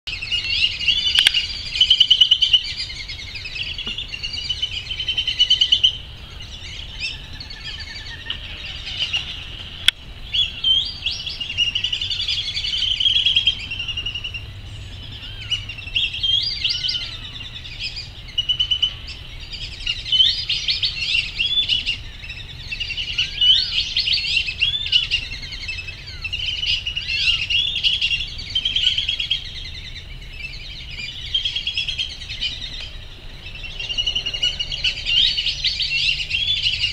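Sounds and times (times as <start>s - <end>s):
ducks whistling calls: 0.1s - 36.9s.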